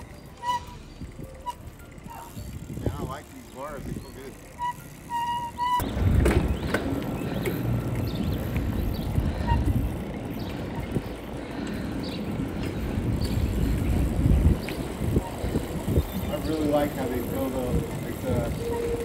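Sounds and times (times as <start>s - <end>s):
wind rumbling on microphone: 0.0s - 5.1s, 5.7s - 19.0s
bicycle tyres rolling on asphalt: 0.0s - 19.0s.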